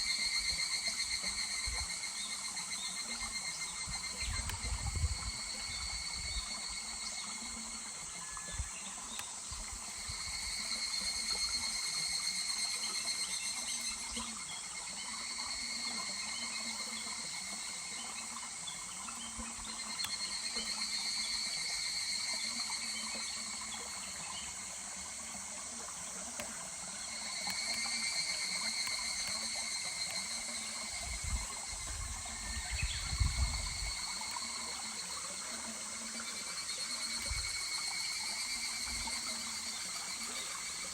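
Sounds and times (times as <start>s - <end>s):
cicadas calling: 0.0s - 40.9s
stream murmuring: 0.0s - 40.9s.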